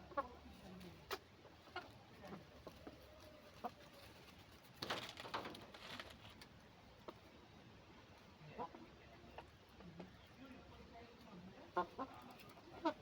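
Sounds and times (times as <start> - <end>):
chickens clucking softly: 0.0 - 13.0.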